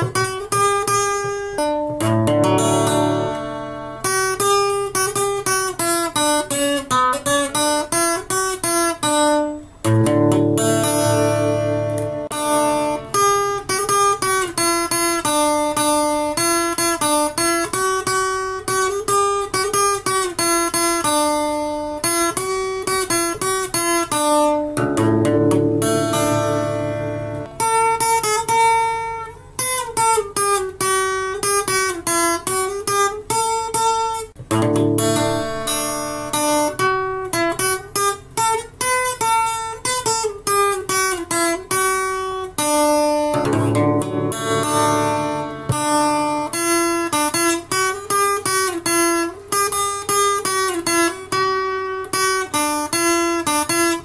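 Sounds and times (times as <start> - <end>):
plucked guitar melody: 0.0 - 54.0
strummed guitar chords: 0.0 - 54.0.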